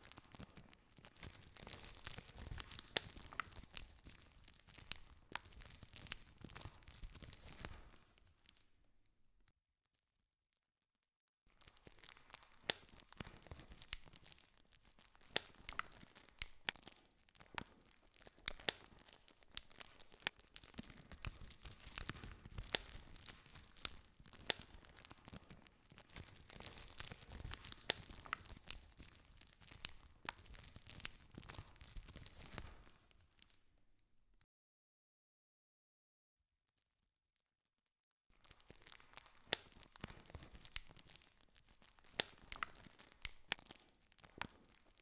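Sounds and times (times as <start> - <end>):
wood crackling and popping: 0.0 - 9.1, 11.5 - 34.2, 38.3 - 45.0.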